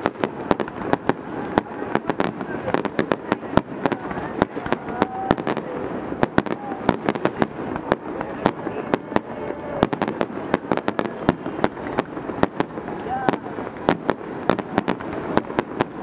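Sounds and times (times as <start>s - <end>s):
continuous noisy background: 0.0s - 16.0s
fireworks bangs: 0.0s - 16.0s.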